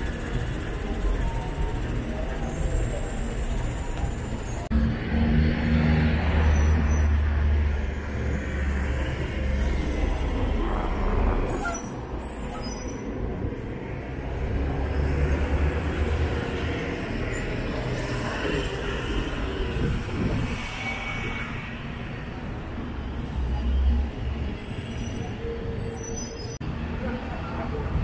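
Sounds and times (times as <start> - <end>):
buses driving past: 0.0 - 28.0
street traffic noise: 0.0 - 28.0.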